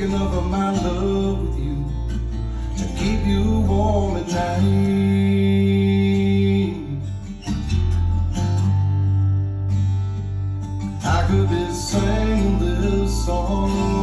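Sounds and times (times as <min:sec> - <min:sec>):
acoustic guitar song over speakers: 0:00.0 - 0:14.0
deep bass notes: 0:00.0 - 0:14.0.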